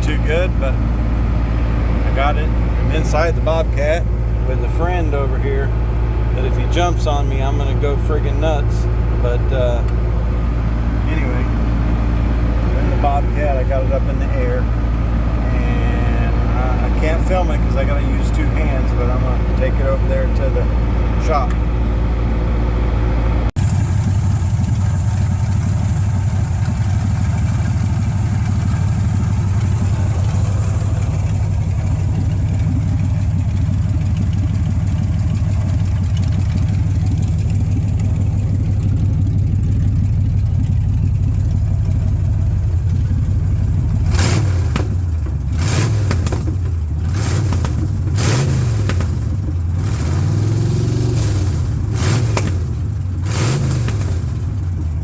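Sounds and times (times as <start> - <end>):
engine running and revving: 4.5 - 55.0.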